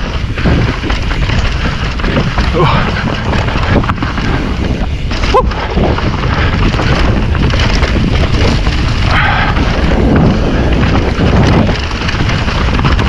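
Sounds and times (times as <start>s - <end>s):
bike rattle and rumble: 0.0s - 13.0s
wind buffeting microphone: 0.0s - 13.0s.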